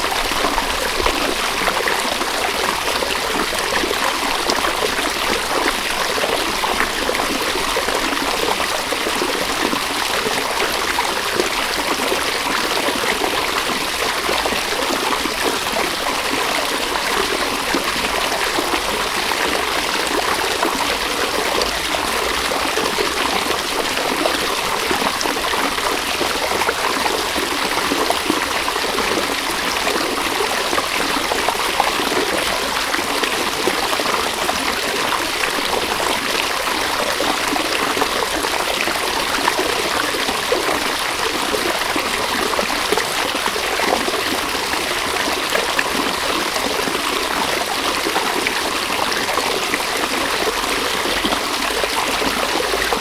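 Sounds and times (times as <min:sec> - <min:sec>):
river water over stones: 0:00.0 - 0:53.0.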